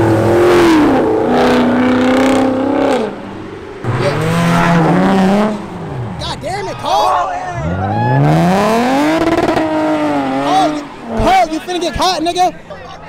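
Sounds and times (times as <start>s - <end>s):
car engine revving hard: 0.0s - 6.8s, 7.4s - 11.6s
smaller car engine revving: 0.0s - 11.8s.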